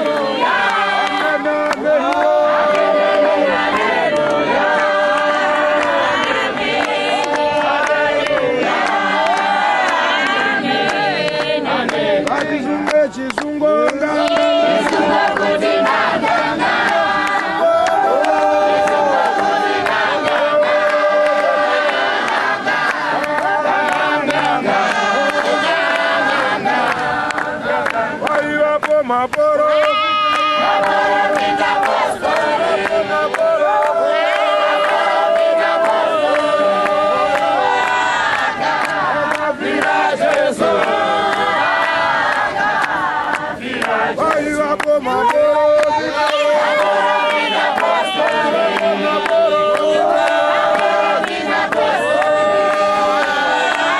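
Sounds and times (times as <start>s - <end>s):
congregation singing a hymn: 0.0s - 53.9s
hand claps: 0.0s - 53.9s.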